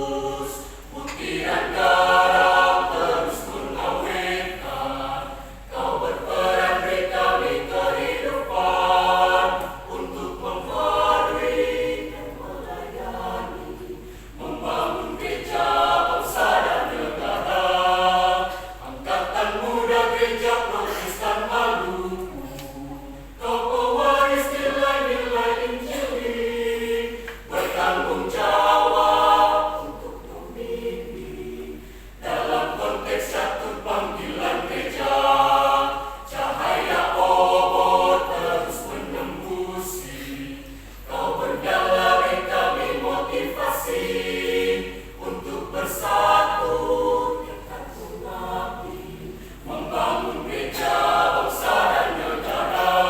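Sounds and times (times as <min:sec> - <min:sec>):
choir singing a hymn: 0:00.0 - 0:53.0.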